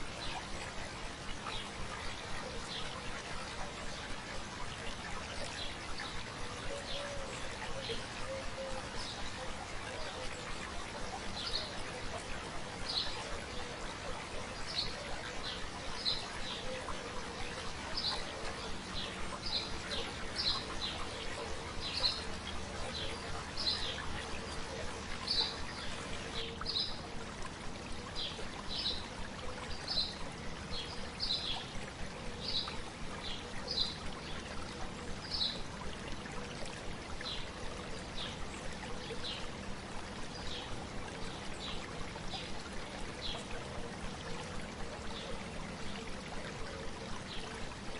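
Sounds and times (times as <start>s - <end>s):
stream babbling: 0.0s - 47.9s.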